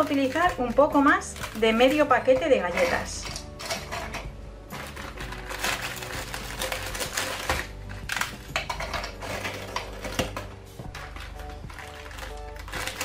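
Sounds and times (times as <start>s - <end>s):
background music: 0.0s - 13.0s
biscuits cracking and clattering: 0.0s - 13.0s.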